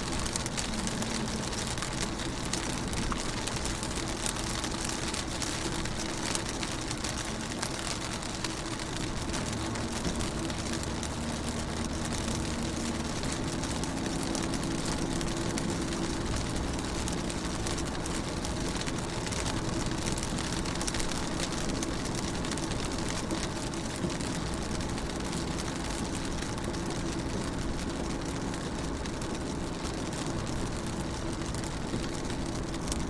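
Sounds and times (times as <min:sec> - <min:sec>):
low engine hum: 0:00.0 - 0:33.0
rain pattering on car window: 0:00.0 - 0:33.0.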